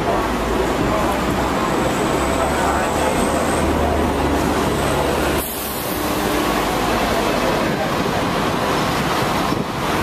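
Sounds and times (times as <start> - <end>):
tram wheels rumbling: 0.0 - 10.0.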